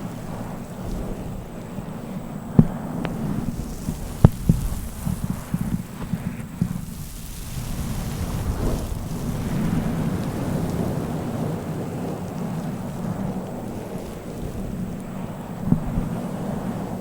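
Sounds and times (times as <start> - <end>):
low rumbling wave swish: 0.0 - 17.0.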